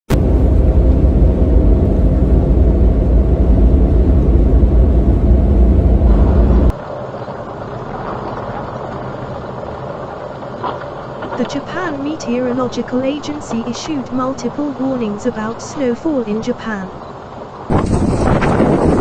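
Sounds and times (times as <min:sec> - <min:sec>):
blizzard wind buffeting microphone: 0:00.1 - 0:19.0
steady rushing noise: 0:00.1 - 0:19.0.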